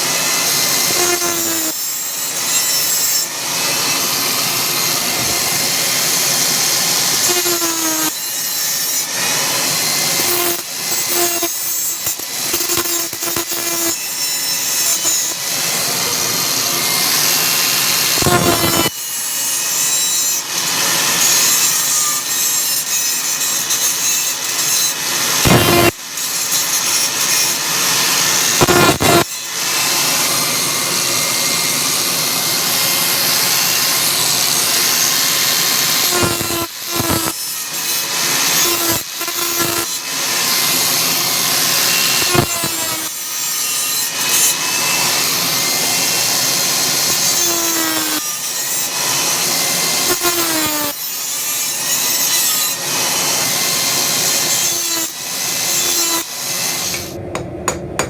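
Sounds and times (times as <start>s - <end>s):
electric grinder on steel: 0.0s - 57.2s.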